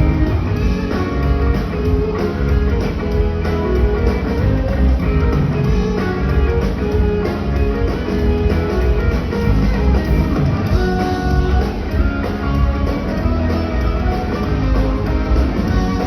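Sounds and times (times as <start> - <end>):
drum kit: 0.0 - 16.0
electric guitar: 0.0 - 16.0.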